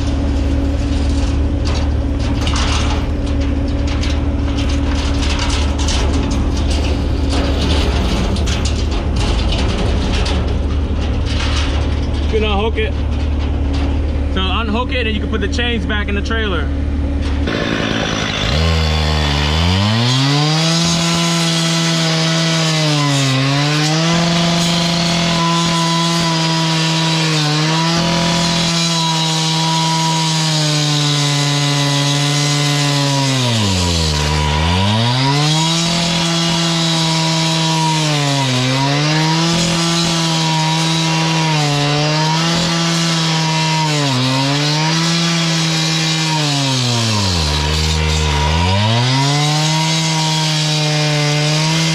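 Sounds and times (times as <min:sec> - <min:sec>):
concrete saw cutting: 0:00.0 - 0:10.4, 0:14.0 - 0:51.9.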